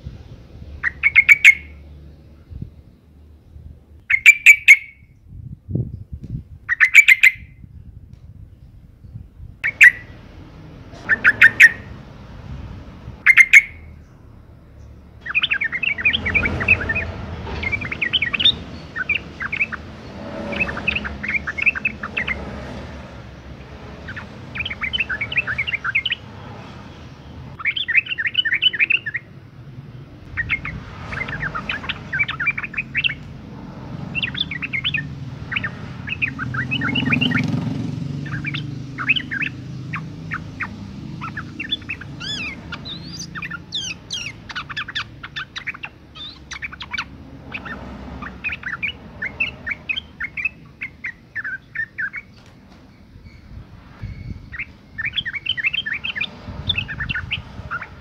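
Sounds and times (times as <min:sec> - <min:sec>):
bird chirping and chattering: 0:00.6 - 0:02.0, 0:04.0 - 0:05.1, 0:06.6 - 0:07.5, 0:09.6 - 0:10.2, 0:10.9 - 0:14.2, 0:14.8 - 0:29.3, 0:30.0 - 0:58.0.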